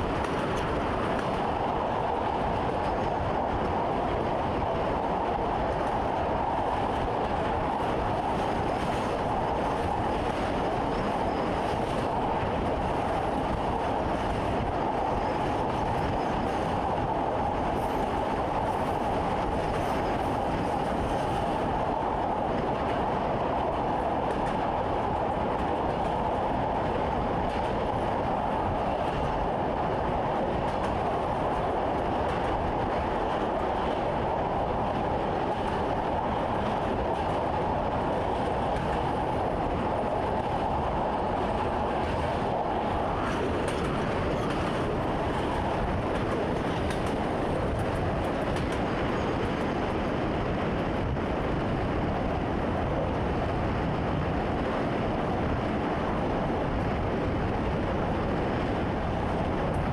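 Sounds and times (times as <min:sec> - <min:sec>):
train hum: 0:00.0 - 0:59.9
train rumbling along track: 0:00.0 - 0:59.9.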